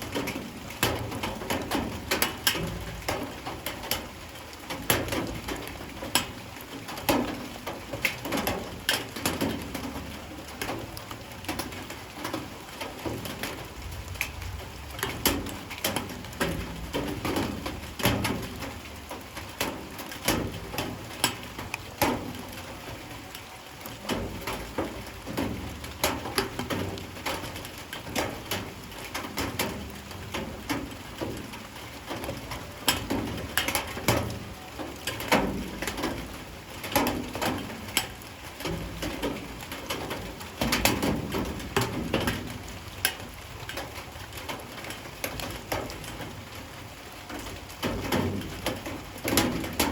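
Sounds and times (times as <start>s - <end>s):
light rain on hard surfaces: 0.0s - 49.9s.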